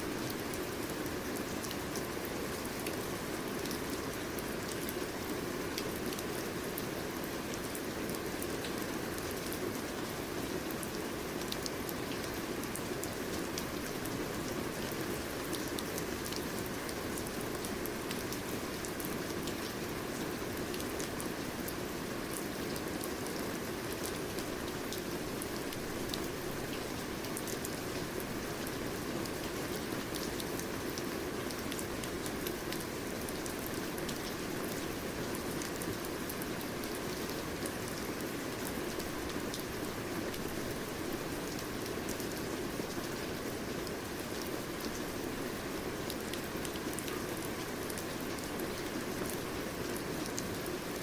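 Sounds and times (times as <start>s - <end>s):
steady rain falling: 0.0s - 51.0s
raindrops pattering on a surface: 0.2s - 51.0s.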